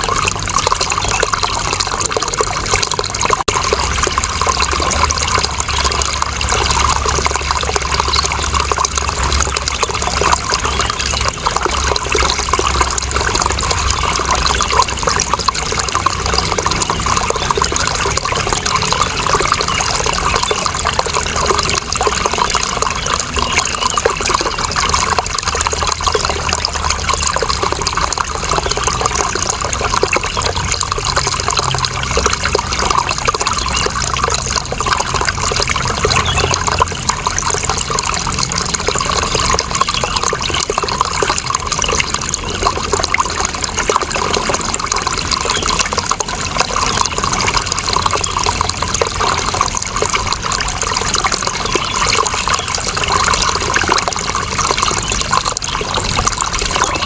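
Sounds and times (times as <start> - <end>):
running water splashing: 0.0 - 57.0.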